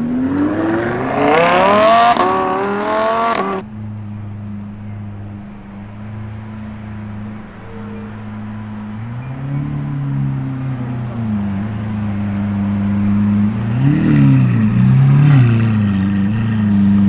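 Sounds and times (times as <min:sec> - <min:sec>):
low engine hum: 0:00.0 - 0:17.0
sports car engine accelerating: 0:00.0 - 0:17.0.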